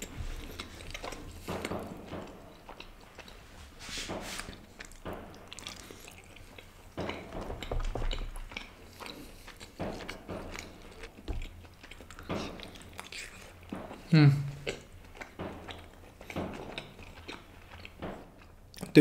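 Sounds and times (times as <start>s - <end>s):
chewing and wet mouth sounds: 0.0s - 19.0s.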